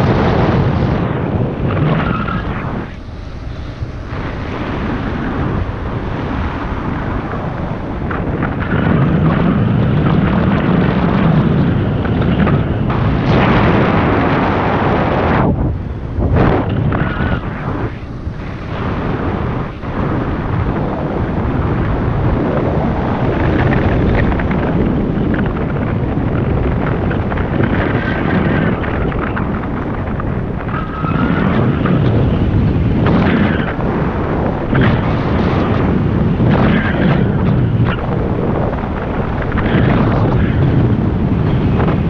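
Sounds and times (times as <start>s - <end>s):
gusty wind buffeting microphone: 0.0s - 42.0s.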